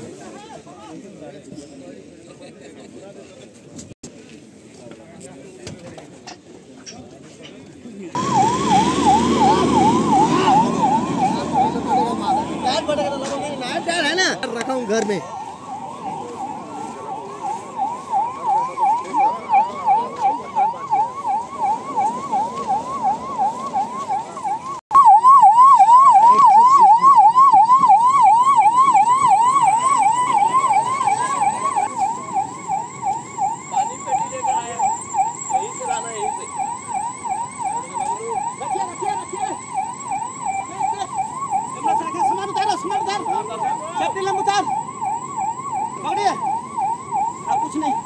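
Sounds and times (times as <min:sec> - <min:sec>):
electronic siren yelping: 0:08.2 - 0:48.0.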